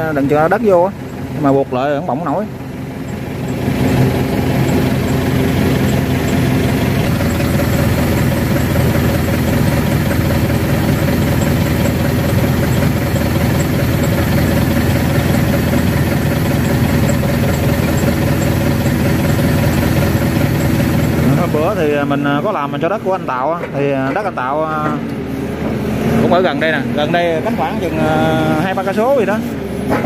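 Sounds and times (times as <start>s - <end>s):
excavator diesel engine idling: 0.0s - 30.0s.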